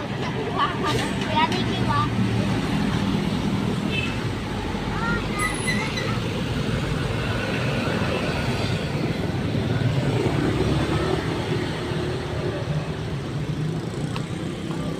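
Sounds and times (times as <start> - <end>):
heavy vehicle engine rumble: 0.0 - 14.9
road traffic noise: 0.0 - 14.9.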